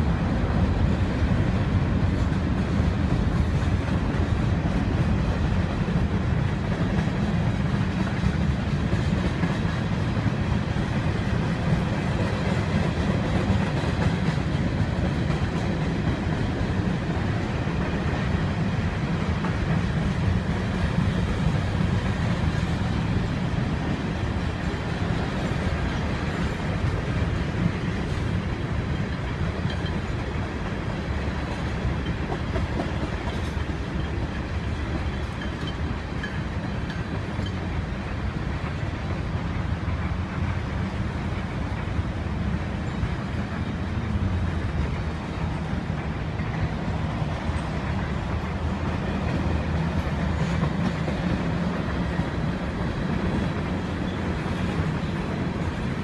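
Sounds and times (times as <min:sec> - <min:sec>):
freight train wheels rolling on track: 0:00.0 - 0:56.0.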